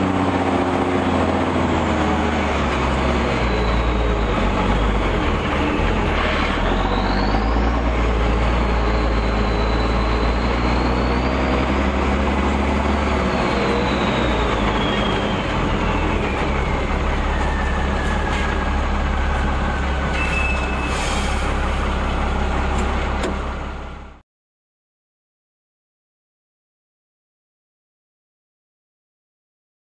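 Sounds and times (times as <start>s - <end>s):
truck engine rumble: 0.0s - 24.2s.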